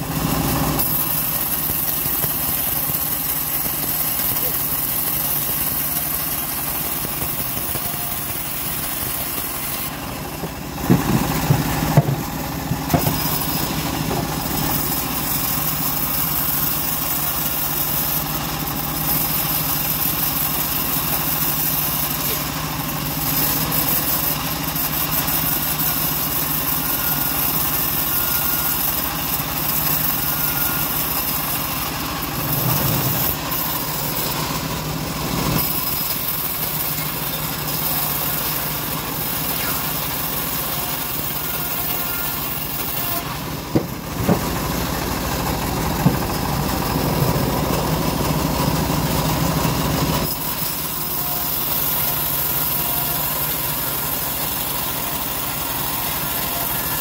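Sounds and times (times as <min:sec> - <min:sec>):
band sawmill humming: 0:00.0 - 0:57.0.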